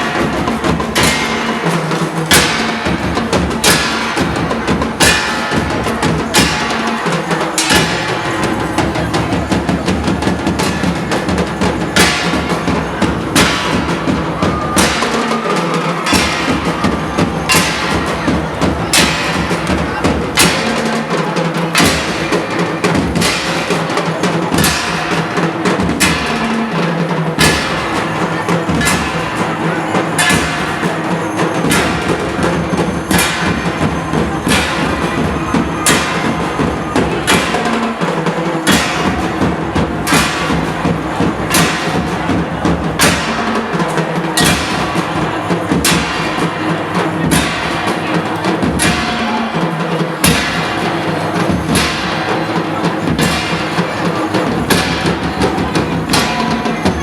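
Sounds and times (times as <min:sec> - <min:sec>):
drums and percussion music: 0:00.0 - 0:57.0.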